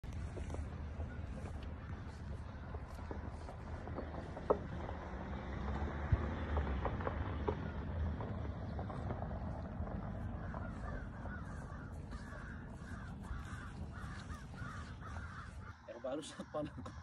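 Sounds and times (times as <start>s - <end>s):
crows cawing: 0.1s - 5.2s, 7.3s - 17.0s.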